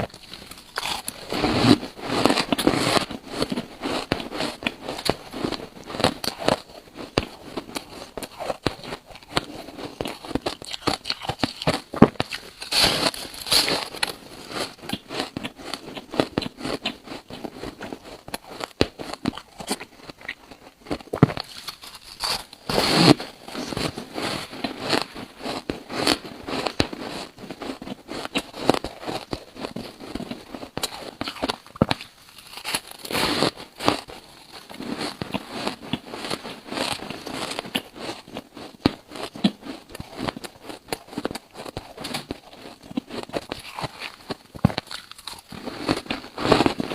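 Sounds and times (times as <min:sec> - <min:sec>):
crunchy ice being chewed: 0:00.0 - 0:46.9.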